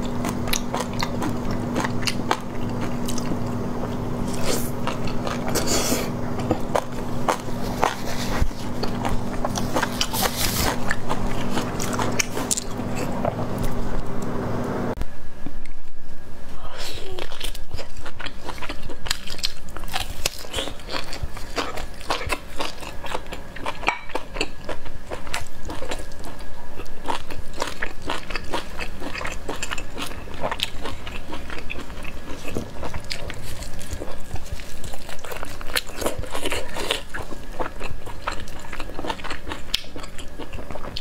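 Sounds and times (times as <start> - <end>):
biting and chewing: 0.0 - 14.0, 17.3 - 41.0.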